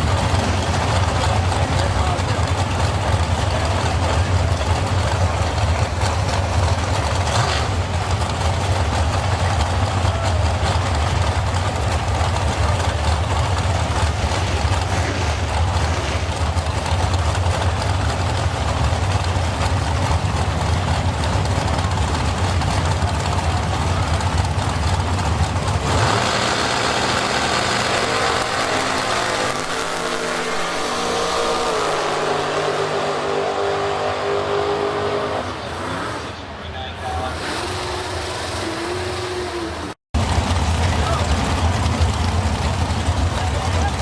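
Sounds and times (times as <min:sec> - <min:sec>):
drag racing car engine: 0:00.0 - 0:44.0.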